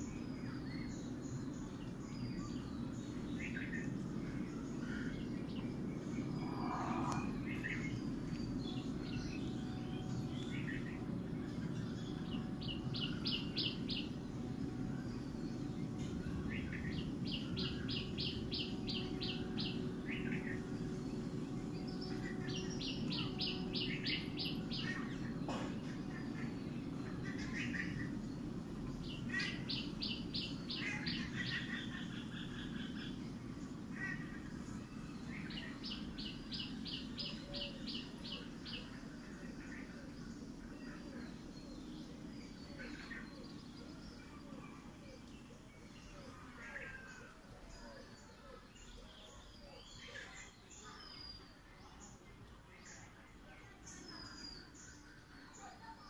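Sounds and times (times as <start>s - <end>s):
low outdoor rumble: 0.0s - 48.2s
soft bird chirps: 0.0s - 56.0s.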